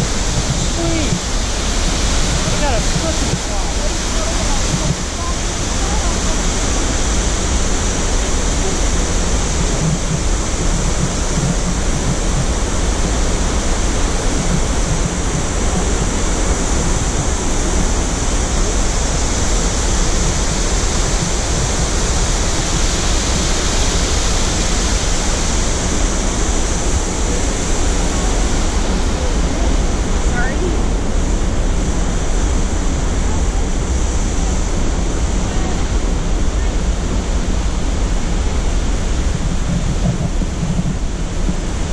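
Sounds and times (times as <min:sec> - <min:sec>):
waterfall rushing: 0:00.0 - 0:41.9
whitewater river churning: 0:00.0 - 0:41.9.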